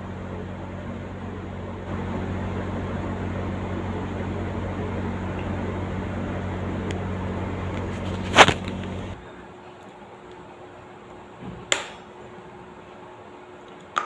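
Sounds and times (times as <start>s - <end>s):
steady hum: 0.0s - 13.8s.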